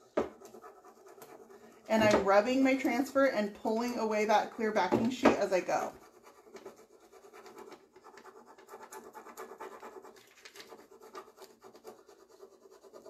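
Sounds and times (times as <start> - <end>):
fingertips scratching plastic sheet: 0.0 - 3.0, 5.6 - 13.0.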